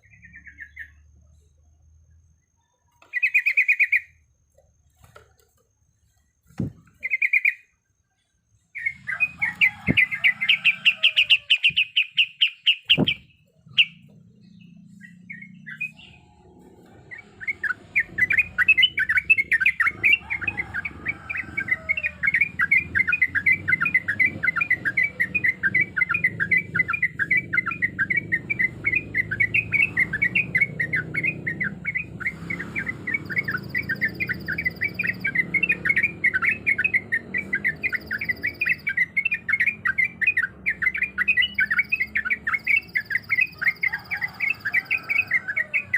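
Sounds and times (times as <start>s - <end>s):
bird chirping song: 0.0s - 45.9s.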